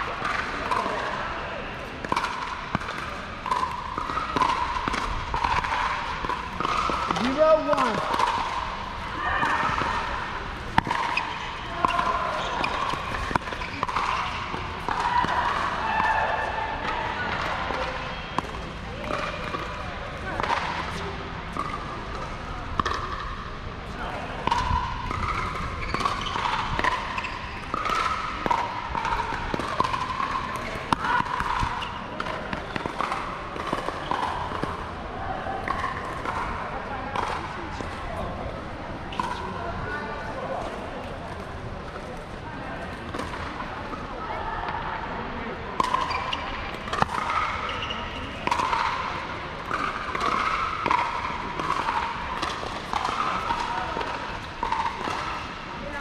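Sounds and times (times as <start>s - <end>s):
ball bouncing on hard court: 2.0s - 34.9s, 35.6s - 38.0s, 45.8s - 55.6s.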